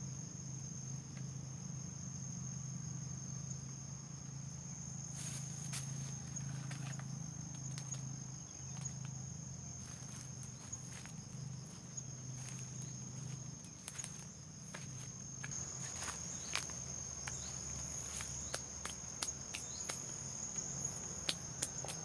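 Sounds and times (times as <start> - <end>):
high-pitched insect drone: 1.6 - 22.0.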